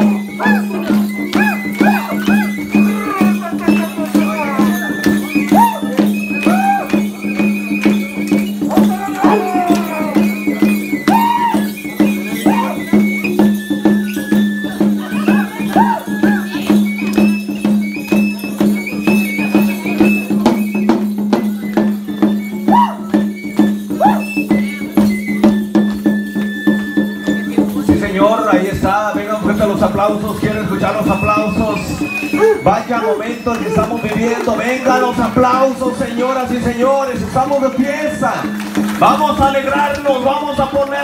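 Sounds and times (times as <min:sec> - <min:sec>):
high stepping melody: 0:00.0 - 0:41.0.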